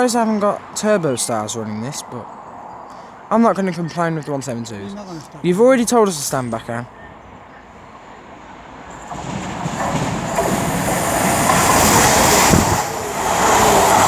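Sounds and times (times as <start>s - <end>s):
train passing: 0.0s - 14.0s
wheel and rail noise: 0.0s - 14.0s.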